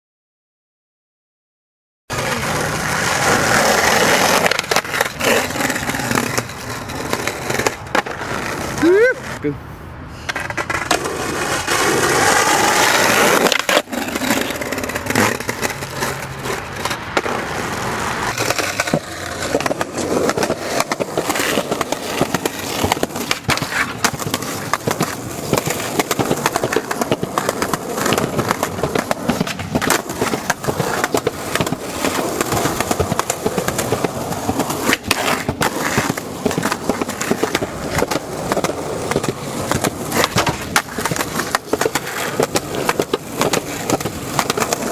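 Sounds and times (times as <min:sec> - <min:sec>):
skateboard clacks: 0:02.1 - 0:09.4, 0:10.2 - 0:44.9
skateboard wheels rolling on asphalt: 0:02.1 - 0:44.9.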